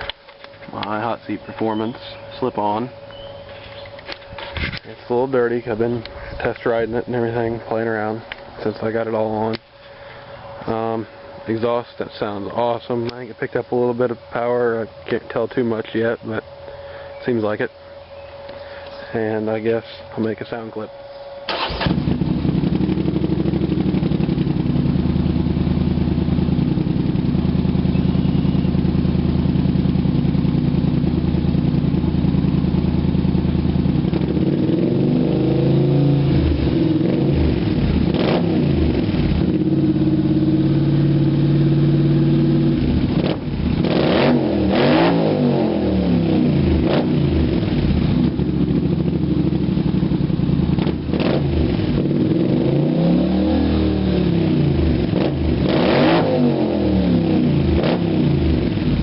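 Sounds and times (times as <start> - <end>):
atv engine idling and revving: 0.0 - 59.0.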